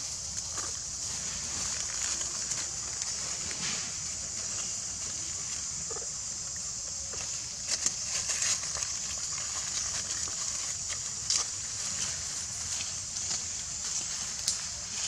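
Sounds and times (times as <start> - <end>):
high hiss: 0.0 - 15.0.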